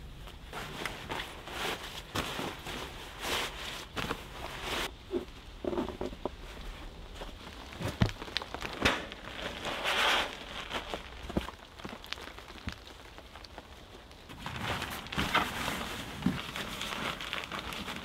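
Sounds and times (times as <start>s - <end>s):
fabric rustling and crinkling: 0.0s - 18.0s.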